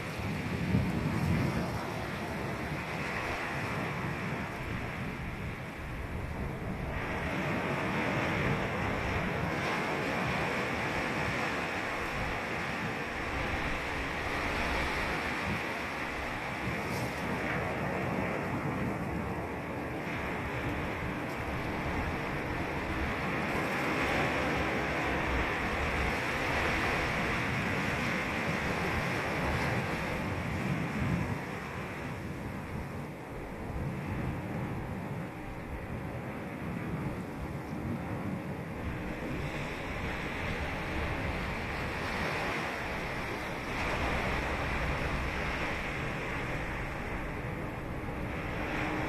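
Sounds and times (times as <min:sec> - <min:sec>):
ocean surf washing onto beach: 0:00.0 - 0:49.0.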